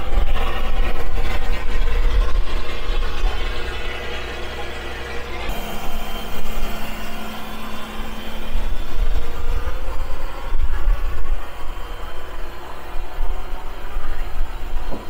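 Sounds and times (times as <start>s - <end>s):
diesel engine rumbling unevenly: 0.0s - 15.0s.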